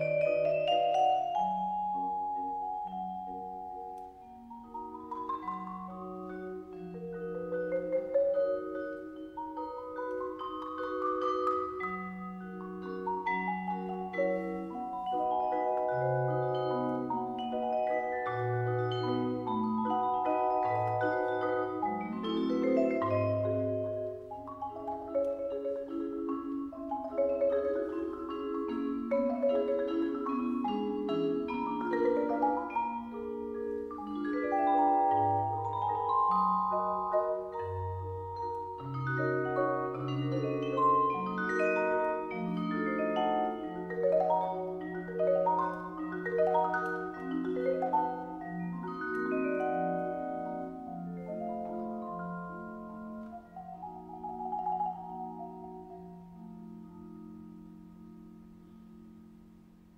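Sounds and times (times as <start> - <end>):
vibraphone notes ringing: 0.0 - 59.3
marimba playing: 0.0 - 59.8.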